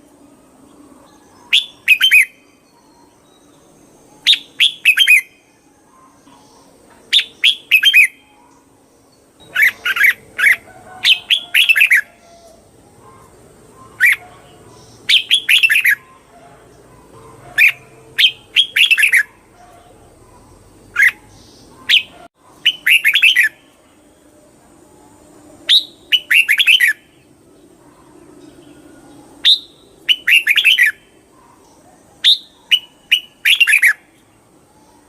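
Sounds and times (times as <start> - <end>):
bulbul singing: 0.0 - 24.3, 25.0 - 35.0.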